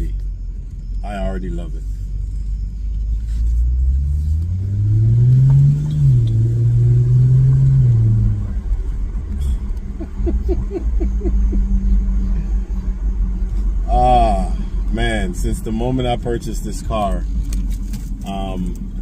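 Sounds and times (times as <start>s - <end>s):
car engine accelerating: 0.0s - 19.0s
low steady hum: 0.0s - 19.0s.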